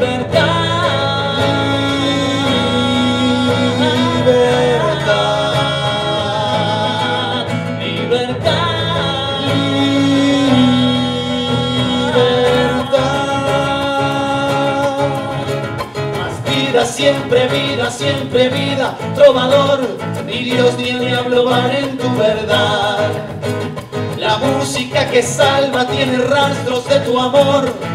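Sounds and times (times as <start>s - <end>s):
men singing long held notes: 0.0s - 23.3s
classical guitar playing: 0.0s - 27.9s.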